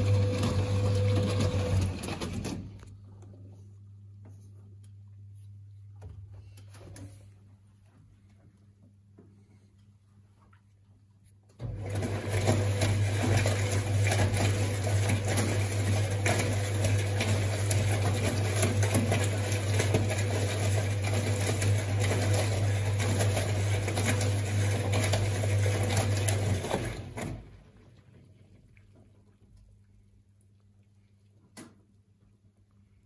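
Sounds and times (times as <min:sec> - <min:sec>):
washing machine motor hum: 0:00.0 - 0:09.0, 0:11.6 - 0:30.4.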